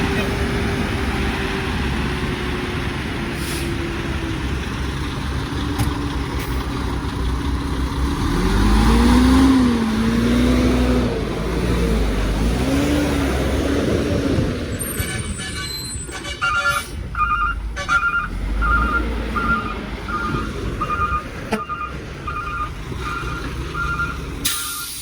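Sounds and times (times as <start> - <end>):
truck engine revving: 0.0 - 25.0
trucks passing: 0.0 - 25.0.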